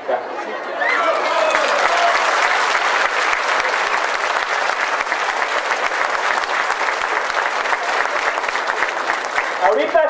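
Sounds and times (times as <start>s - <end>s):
crowd applauding: 0.8s - 10.0s.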